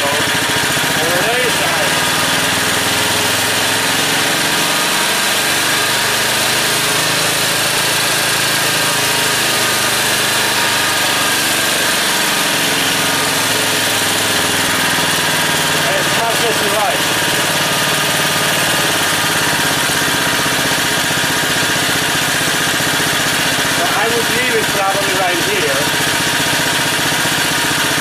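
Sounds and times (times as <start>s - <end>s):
generator engine idling: 0.0s - 28.0s.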